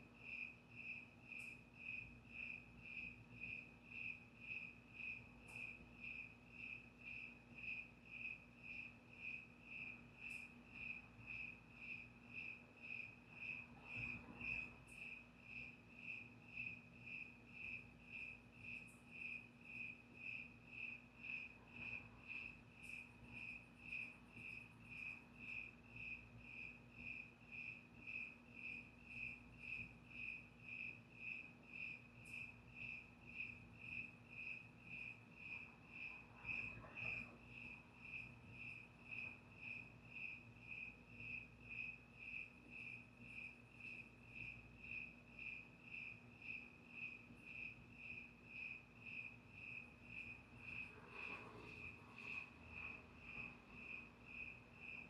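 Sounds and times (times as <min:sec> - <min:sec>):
cricket chirping: 0:00.1 - 0:55.0.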